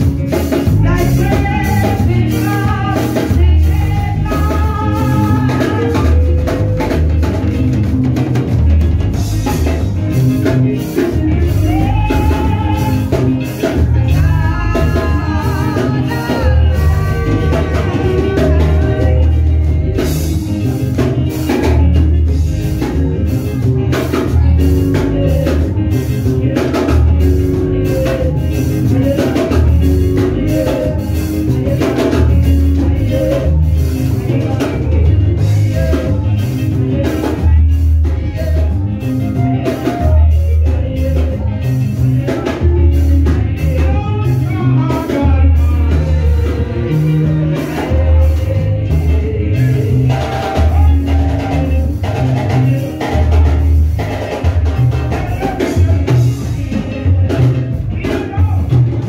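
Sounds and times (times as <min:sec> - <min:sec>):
drum kit beat: 0:00.0 - 0:59.0
keyboard: 0:00.0 - 0:59.0
people singing worship music: 0:00.0 - 0:59.0.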